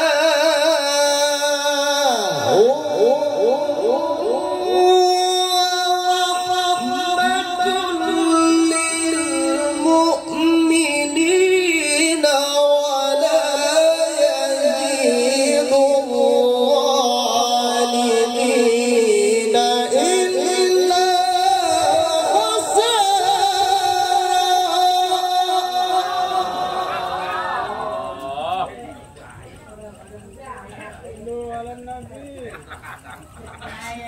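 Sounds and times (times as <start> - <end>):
man chanting into a microphone: 0.0 - 28.6.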